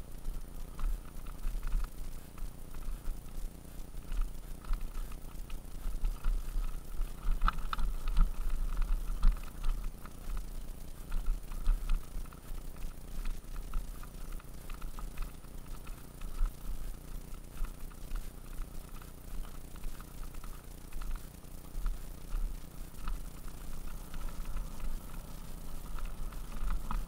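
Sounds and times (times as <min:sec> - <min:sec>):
bike rattling and clicking: 0:00.0 - 0:27.0.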